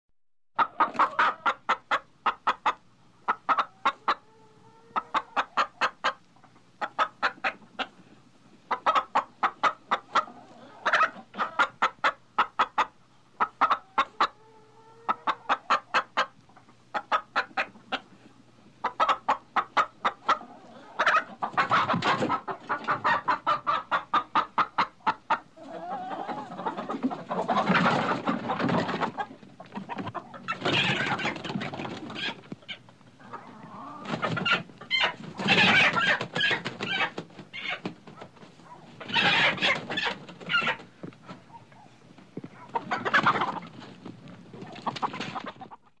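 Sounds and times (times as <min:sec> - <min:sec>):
chicken clucking: 0:00.6 - 0:46.0.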